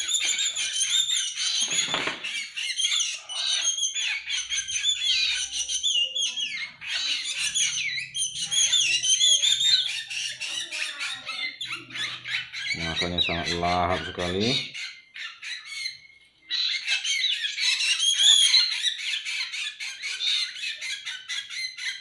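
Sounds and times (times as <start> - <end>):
bird chicks begging calls: 0.0 - 22.0.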